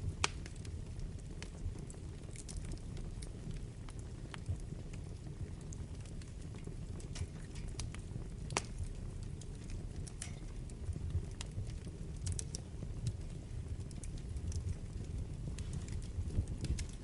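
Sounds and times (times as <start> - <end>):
low steady rumble: 0.0 - 17.0
wood fire crackling and popping: 0.0 - 17.0.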